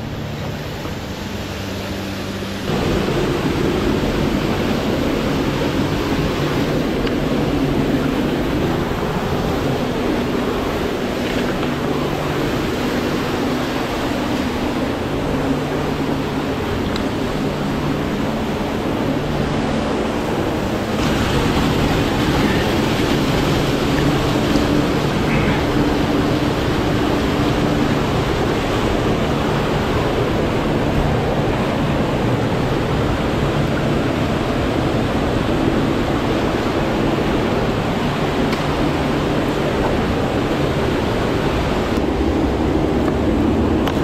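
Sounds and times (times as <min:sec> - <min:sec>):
rushing stream and waterfalls: 0:00.0 - 0:44.0.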